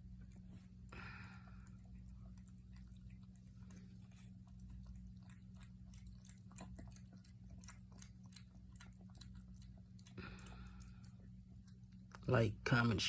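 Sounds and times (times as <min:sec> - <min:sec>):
puppy chewing: 0:00.0 - 0:13.0
steady low hum: 0:00.0 - 0:13.0.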